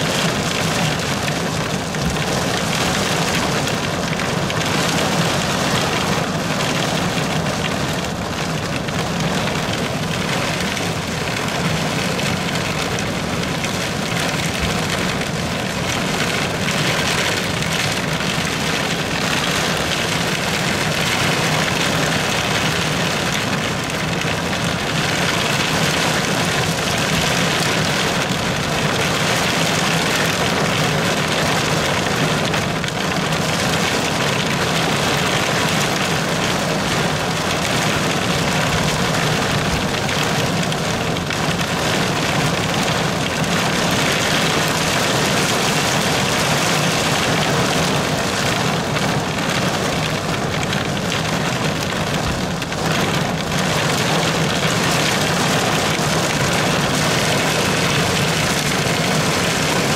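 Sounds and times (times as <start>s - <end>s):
heavy rain on car windshield: 0.0s - 59.9s.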